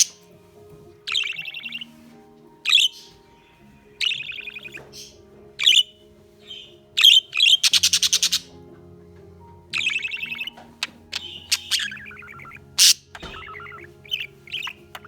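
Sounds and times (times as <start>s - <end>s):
budgerigar chirping and calling: 0.0s - 0.3s, 1.1s - 2.1s, 2.7s - 8.8s, 9.7s - 15.0s
faint background music: 0.0s - 15.0s.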